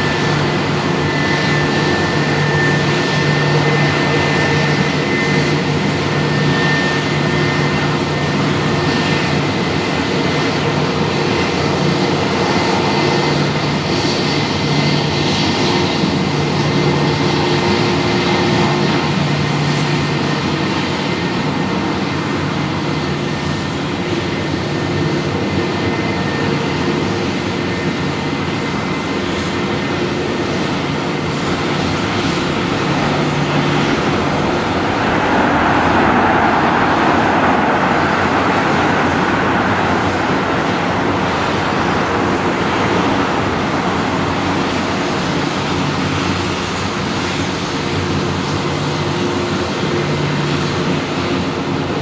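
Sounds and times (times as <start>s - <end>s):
jet engines rushing: 0.0s - 52.0s.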